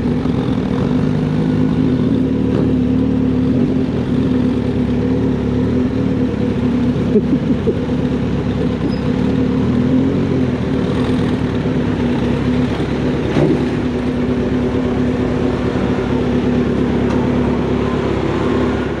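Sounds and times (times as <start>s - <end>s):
motorcycle engine and exhaust: 0.0s - 19.0s.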